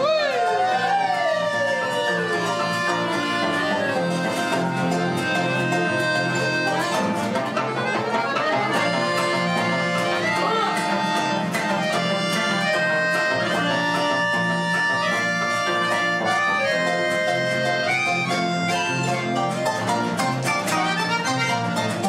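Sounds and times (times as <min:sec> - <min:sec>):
accordion: 0:00.0 - 0:22.0
acoustic guitars: 0:00.0 - 0:22.0
harp: 0:00.0 - 0:22.0.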